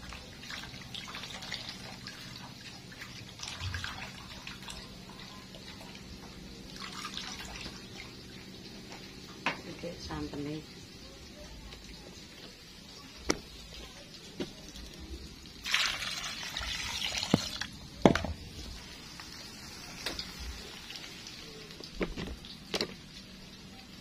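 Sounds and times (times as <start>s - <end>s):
liquid pouring: 0.0s - 8.8s, 12.9s - 23.9s.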